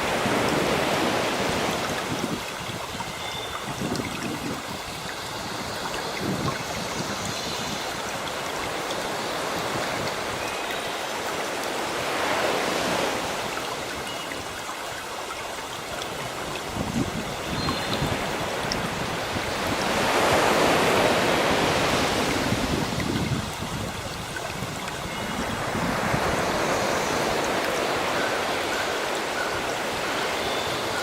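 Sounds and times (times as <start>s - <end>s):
sea waves washing in: 0.0s - 16.6s, 18.0s - 31.0s.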